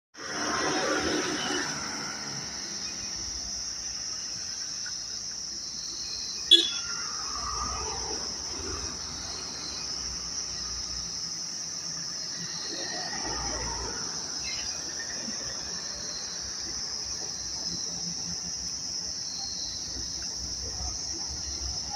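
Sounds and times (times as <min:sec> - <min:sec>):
insects shrilling: 0:00.2 - 0:21.9.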